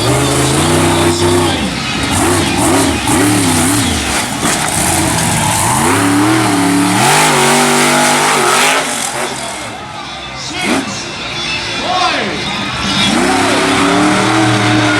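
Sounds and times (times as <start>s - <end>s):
monster truck engine revving: 0.0s - 10.0s, 10.6s - 11.3s, 12.4s - 14.9s.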